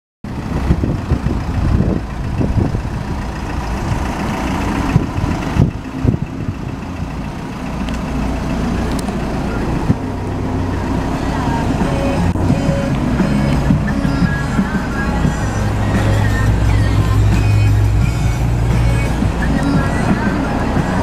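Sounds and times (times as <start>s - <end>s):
diesel engine idling: 0.3s - 21.0s.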